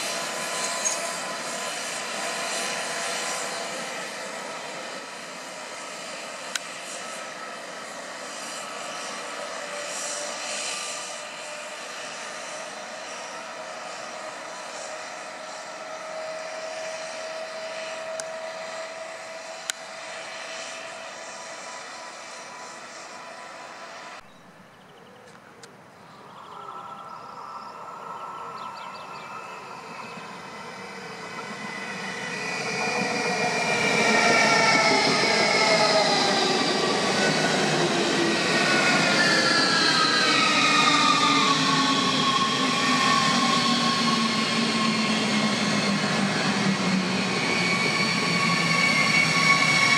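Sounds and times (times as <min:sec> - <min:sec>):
diesel engines running with whine: 0:00.0 - 0:49.9.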